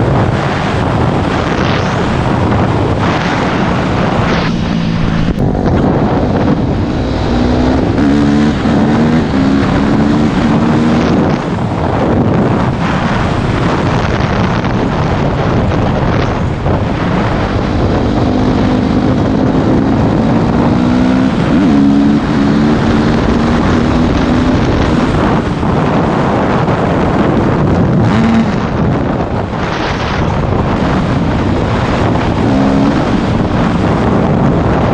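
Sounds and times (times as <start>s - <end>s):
wind noise on microphone: 0.0s - 34.9s
dirt bike engine revving: 1.1s - 15.1s, 17.0s - 26.4s, 27.2s - 34.9s.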